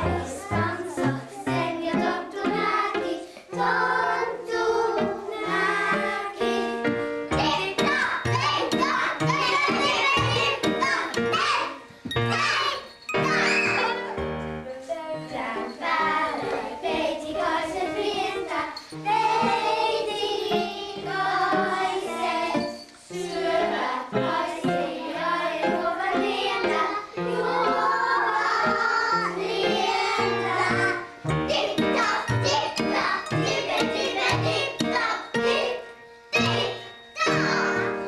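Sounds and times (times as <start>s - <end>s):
children singing: 0.0s - 14.1s, 14.8s - 38.0s
instrumental accompaniment: 0.0s - 38.0s.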